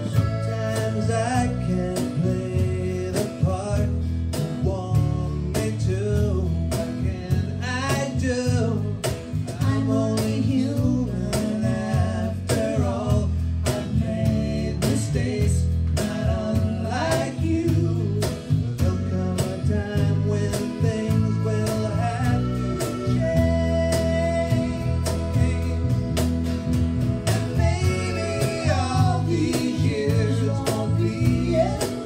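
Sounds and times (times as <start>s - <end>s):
accordion: 0.0s - 32.0s
acoustic guitar: 0.0s - 32.0s
cajon beat: 0.0s - 32.0s
electric bass: 0.0s - 32.0s
lead vocal: 0.0s - 32.0s.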